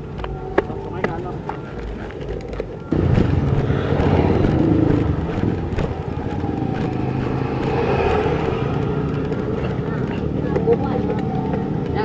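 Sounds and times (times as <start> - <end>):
water pump petrol engine: 0.0 - 12.0.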